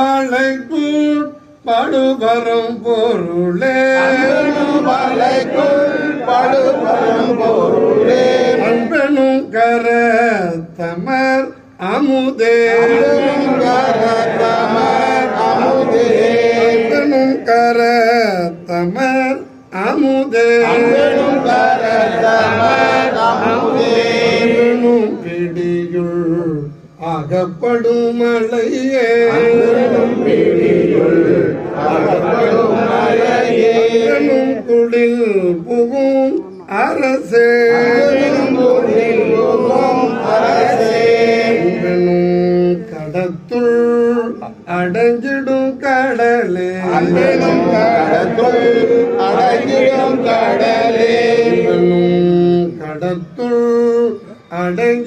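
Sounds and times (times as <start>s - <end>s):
men chanting a devotional hymn: 0.0s - 55.0s.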